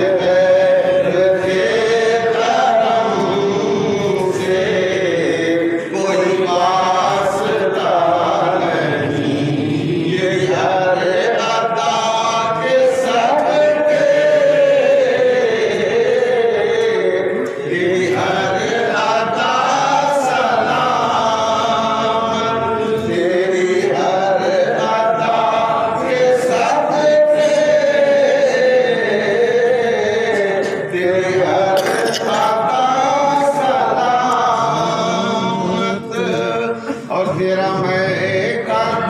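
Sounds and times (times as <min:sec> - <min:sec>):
man singing unaccompanied: 0:00.0 - 0:39.0.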